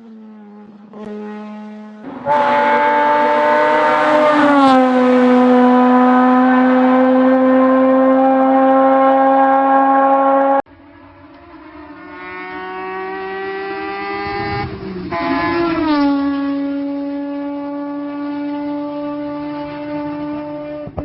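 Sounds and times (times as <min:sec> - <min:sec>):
race car engine passing by: 0:00.0 - 0:21.0.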